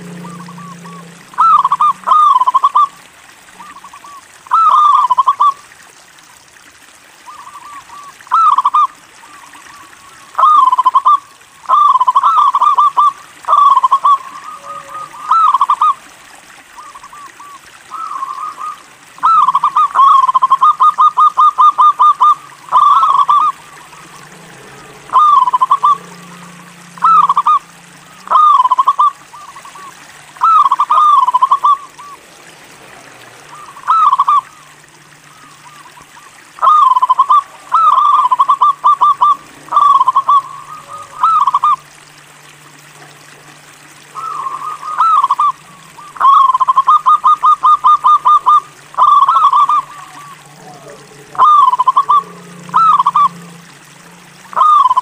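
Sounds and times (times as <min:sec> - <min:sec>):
dove cooing: 0:00.0 - 0:05.6, 0:07.3 - 0:32.3, 0:33.5 - 0:41.9, 0:44.1 - 0:55.0.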